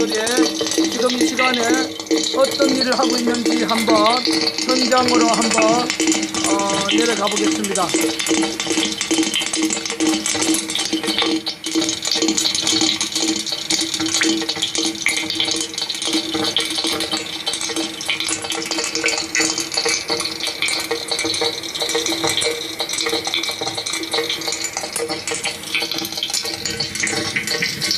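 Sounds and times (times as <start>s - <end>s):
crackling trickling noise: 0.0s - 27.9s.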